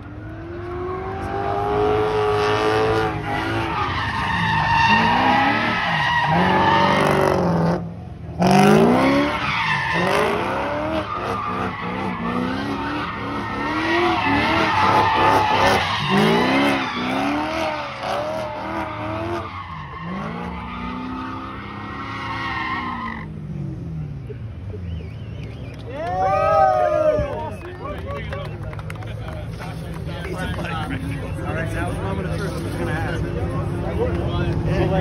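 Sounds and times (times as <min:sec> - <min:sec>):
car engine revving: 0:00.0 - 0:25.8, 0:29.1 - 0:35.0
tyres skidding and squealing: 0:00.0 - 0:35.0.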